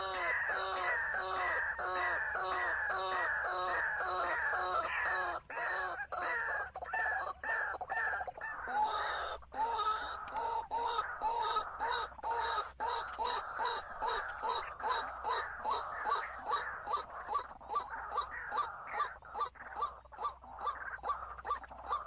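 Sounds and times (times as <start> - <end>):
animal calling: 0.0 - 22.0.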